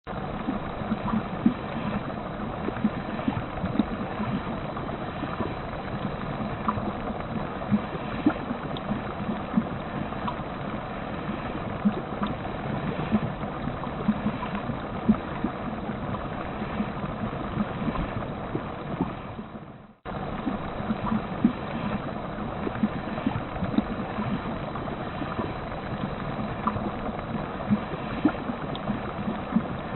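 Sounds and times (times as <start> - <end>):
gurgles and pops: 0.1 - 29.9
water rushing through pipes: 0.1 - 29.9.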